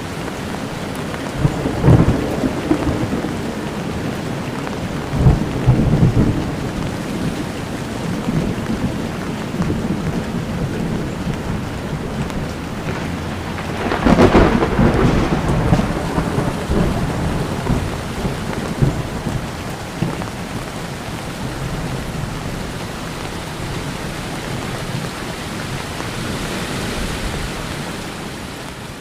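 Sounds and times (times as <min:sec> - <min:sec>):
heavy rain: 0:00.0 - 0:29.0
thunder rumbling: 0:00.0 - 0:29.0.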